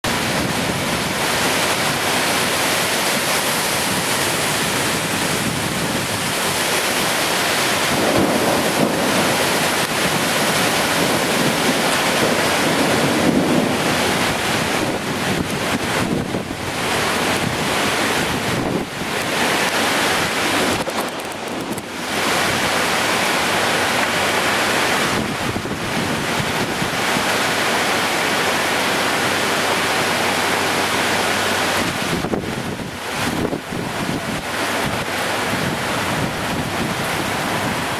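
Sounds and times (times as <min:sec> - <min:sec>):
wind buffeting microphone: 0:00.0 - 0:27.7, 0:31.3 - 0:37.9
heavy rain pouring: 0:00.0 - 0:37.9
strong wind gusting through trees: 0:00.0 - 0:37.9.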